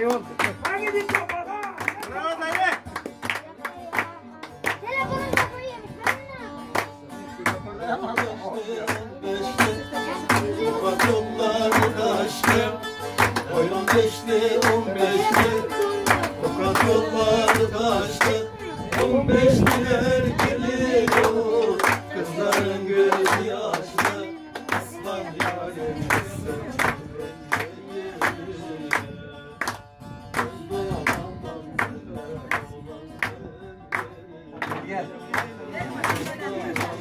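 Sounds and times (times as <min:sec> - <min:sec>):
hand clapping: 0:00.0 - 0:37.0
man singing: 0:07.3 - 0:37.0.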